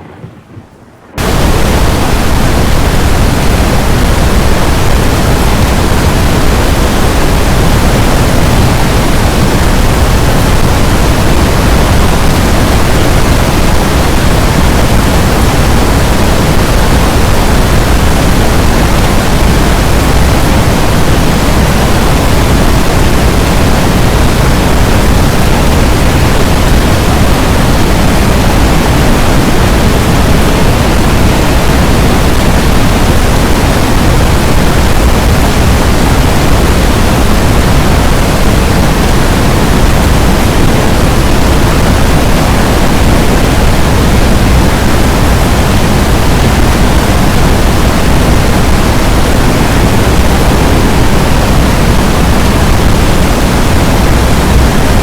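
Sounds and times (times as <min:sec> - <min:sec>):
loud steady rushing noise: 0:00.0 - 0:55.0.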